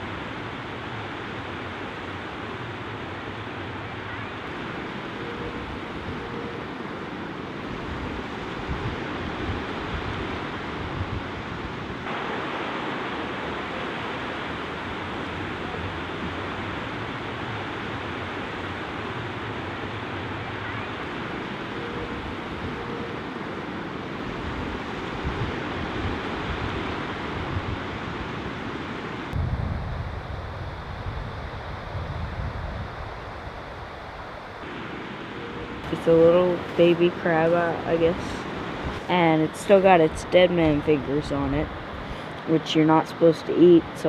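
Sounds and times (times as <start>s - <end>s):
surf on rocky beach: 0.0s - 44.0s
wind on microphone: 3.8s - 44.0s.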